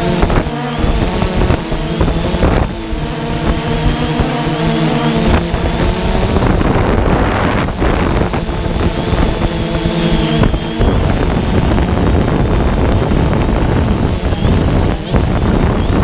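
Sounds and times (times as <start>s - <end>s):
drone propellers whining: 0.0s - 16.0s
wind buffeting microphone: 0.0s - 16.0s.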